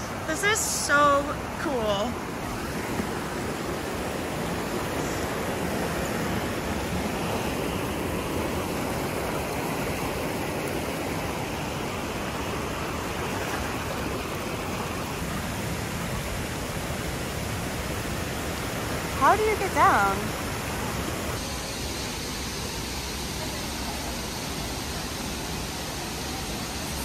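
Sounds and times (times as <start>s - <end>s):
waterfall splashing: 0.0s - 27.0s.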